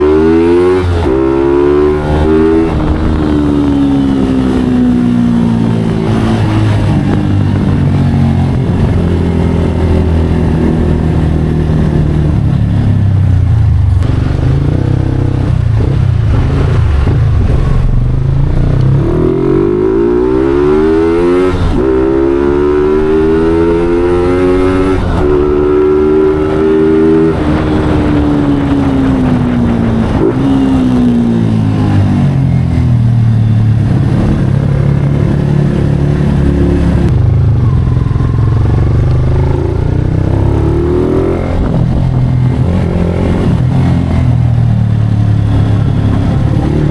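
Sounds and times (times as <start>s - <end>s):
loud motorcycle engine revving: 0.0s - 13.2s, 13.8s - 33.1s, 33.8s - 46.9s.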